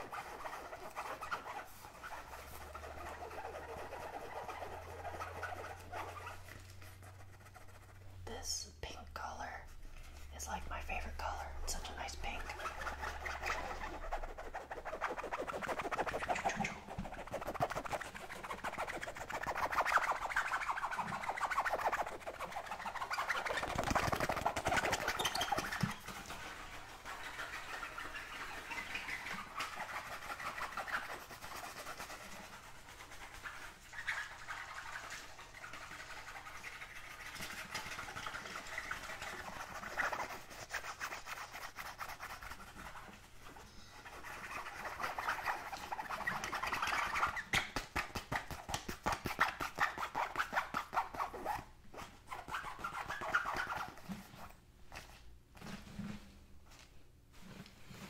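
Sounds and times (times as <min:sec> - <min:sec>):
fingers scratching a pouch: 0:00.0 - 0:08.2, 0:11.8 - 0:56.1.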